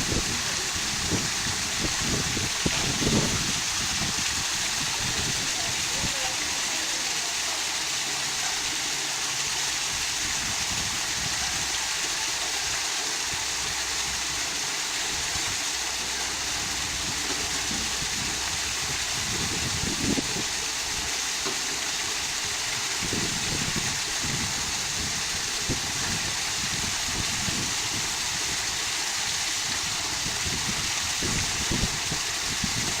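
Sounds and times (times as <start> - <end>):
waterfall pouring into pool: 0.0 - 33.0.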